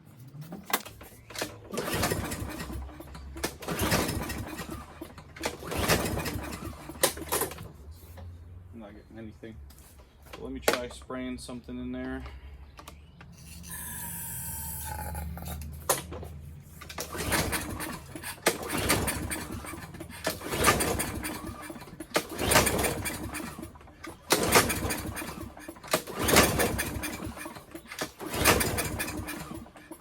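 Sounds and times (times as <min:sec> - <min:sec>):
mower engine pull-starting: 0:00.2 - 0:07.8, 0:13.4 - 0:30.0.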